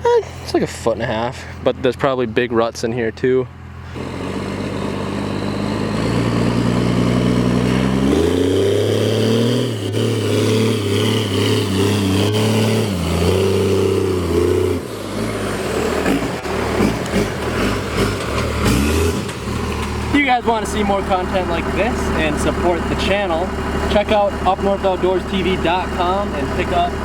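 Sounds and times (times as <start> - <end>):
truck engine under load: 0.0 - 27.0.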